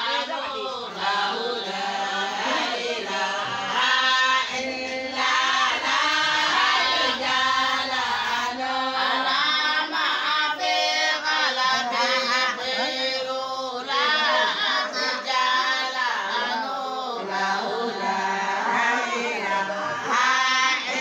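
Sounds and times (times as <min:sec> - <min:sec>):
women singing together: 0:00.0 - 0:21.0.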